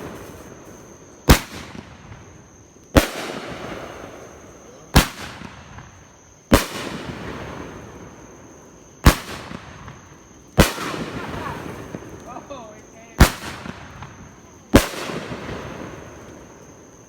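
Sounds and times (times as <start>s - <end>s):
fireworks bangs: 0.0s - 17.0s
fireworks hiss: 0.0s - 17.0s.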